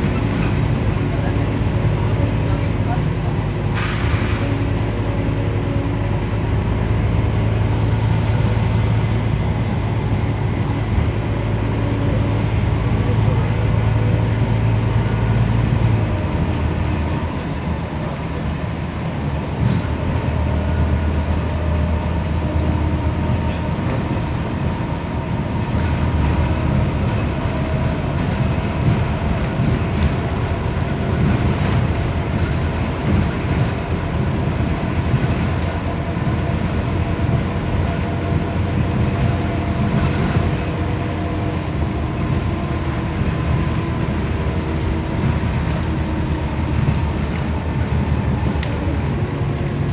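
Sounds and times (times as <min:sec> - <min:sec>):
bus diesel engine drone: 0:00.0 - 0:49.9
road noise: 0:00.0 - 0:49.9.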